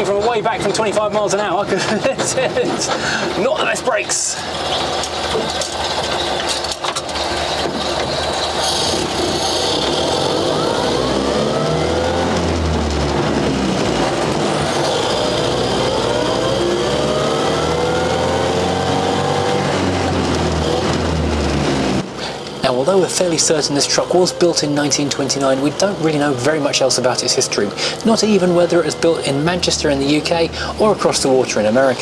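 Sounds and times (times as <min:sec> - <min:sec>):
gear change: 0:00.0 - 0:32.0
truck engine accelerating: 0:00.0 - 0:32.0.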